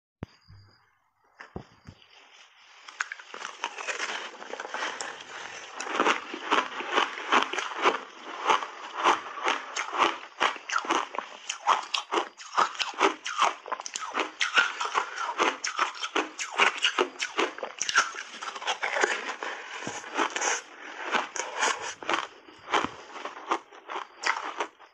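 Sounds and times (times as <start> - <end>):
ice being chewed: 2.7 - 24.9.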